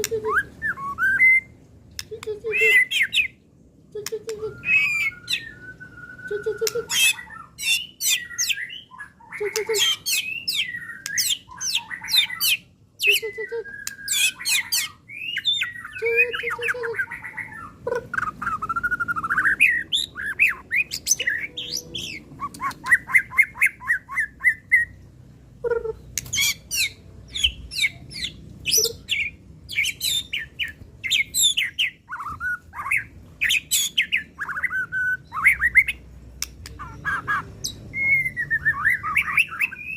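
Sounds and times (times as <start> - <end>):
songbird singing varied song: 0.0 - 3.4, 4.0 - 25.0, 25.6 - 39.9.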